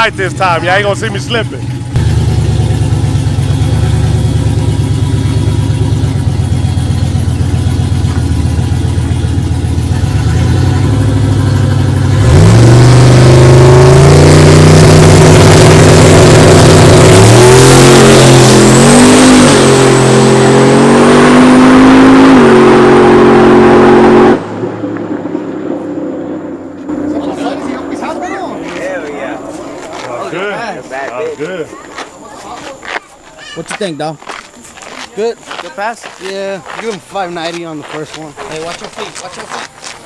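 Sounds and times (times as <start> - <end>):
truck engine idling and accelerating: 0.0 - 40.0.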